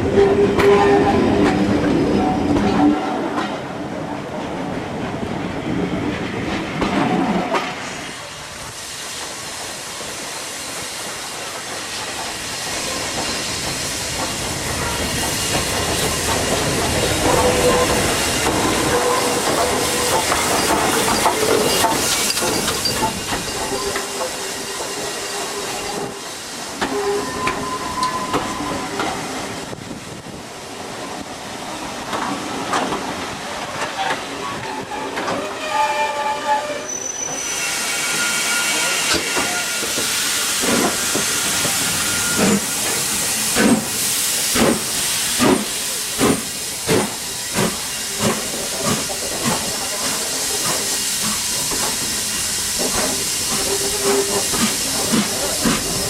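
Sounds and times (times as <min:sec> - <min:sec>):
steam locomotive hissing: 0:03.7 - 0:56.0.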